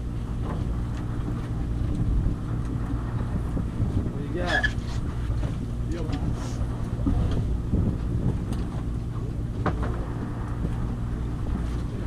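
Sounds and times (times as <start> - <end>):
boat engine humming: 0.0 - 12.0
wind on microphone: 0.0 - 12.0.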